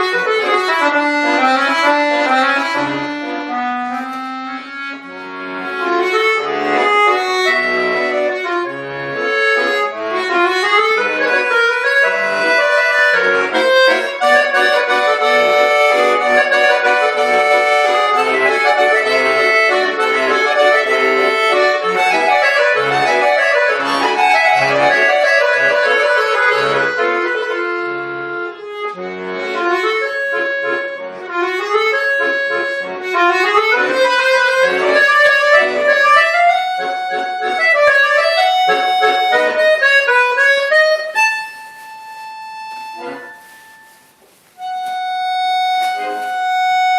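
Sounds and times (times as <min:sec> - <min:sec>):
button accordion solo: 0:00.0 - 0:46.9.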